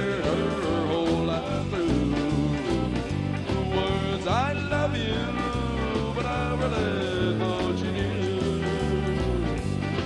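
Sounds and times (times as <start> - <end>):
bass and drum beat: 0.0 - 10.0
country rock band music: 0.0 - 10.0.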